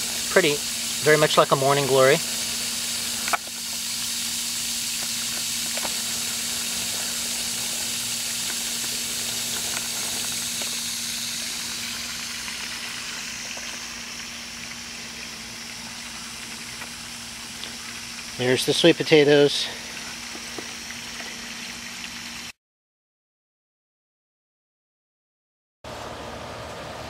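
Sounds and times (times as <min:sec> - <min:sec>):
low steady hum: 0:00.0 - 0:22.5
high-pitched outdoor hiss: 0:00.0 - 0:22.6.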